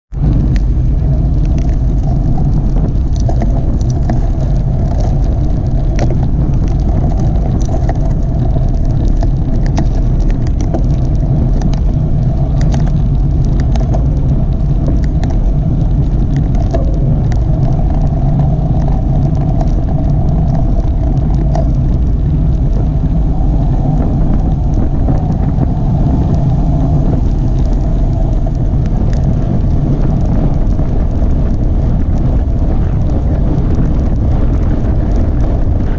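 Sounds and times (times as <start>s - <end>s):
bike tyre road rumble: 0.0s - 35.9s
wind buffeting microphone: 0.1s - 35.9s.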